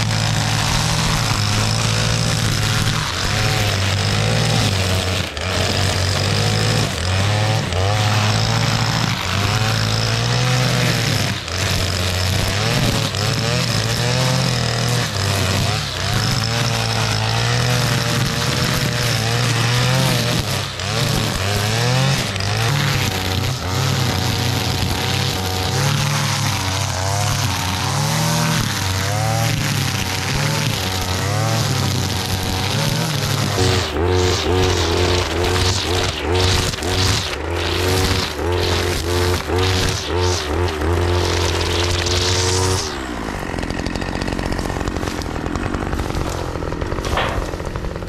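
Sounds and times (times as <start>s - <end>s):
brush cutter engine at high revs: 0.0s - 48.0s
nylon line cutting grass: 0.0s - 48.0s.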